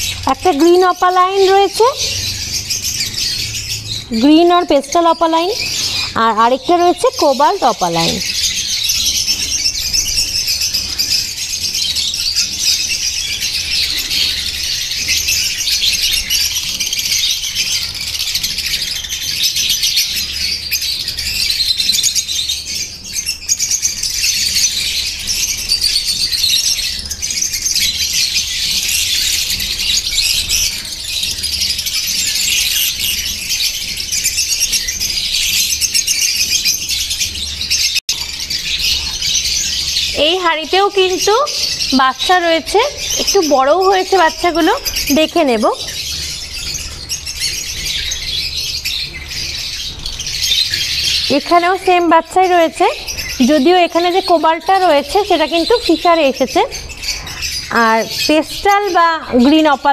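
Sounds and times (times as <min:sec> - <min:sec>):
lovebirds chattering and chirping: 0:00.0 - 0:59.9.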